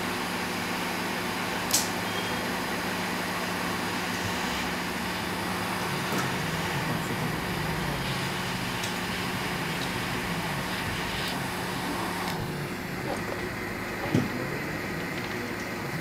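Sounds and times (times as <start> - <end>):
hot air blower hissing: 0.0 - 16.0.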